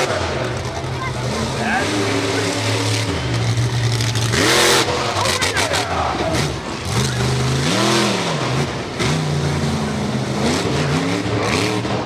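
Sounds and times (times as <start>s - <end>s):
race car engines accelerating: 0.0s - 12.0s.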